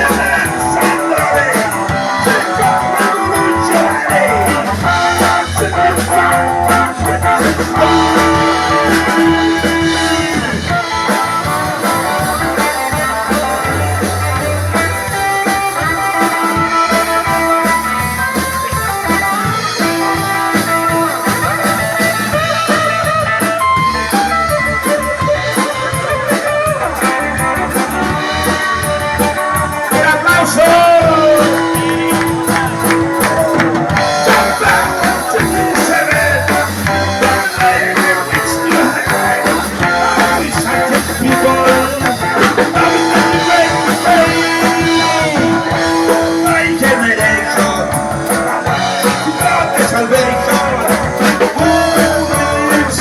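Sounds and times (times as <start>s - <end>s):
person singing: 0.0s - 24.2s, 24.9s - 53.0s
bass guitar: 0.0s - 53.0s
drum kit: 0.0s - 53.0s
electric guitar: 0.0s - 53.0s.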